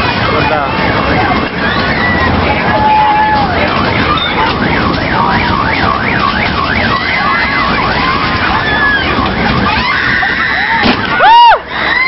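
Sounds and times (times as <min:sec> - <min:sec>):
electronic siren warbling: 0:00.0 - 0:10.8
fairground noise: 0:00.0 - 0:12.0.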